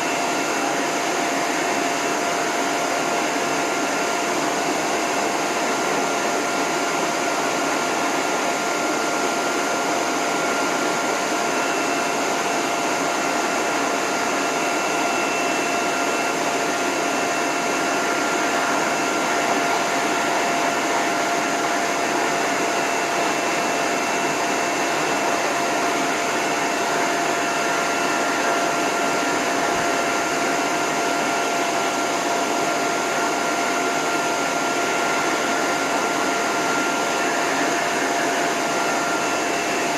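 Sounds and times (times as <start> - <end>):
blower dryer rushing air: 0.0 - 39.9.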